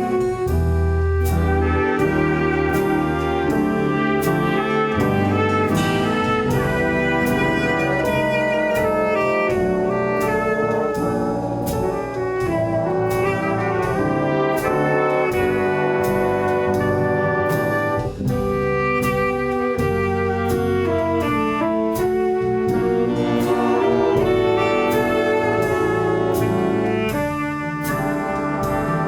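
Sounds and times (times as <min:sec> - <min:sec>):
brass band music with trumpets: 0:00.0 - 0:29.0.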